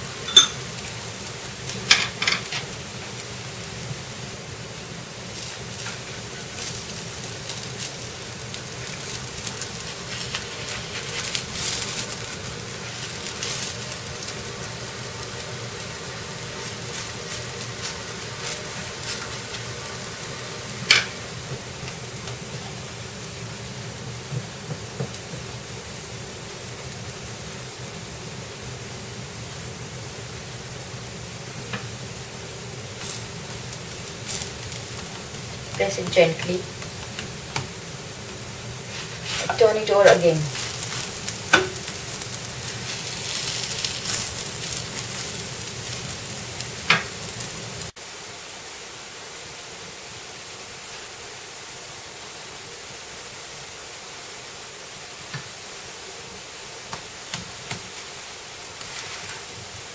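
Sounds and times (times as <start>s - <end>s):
oil sizzling and crackling: 0.0s - 59.9s.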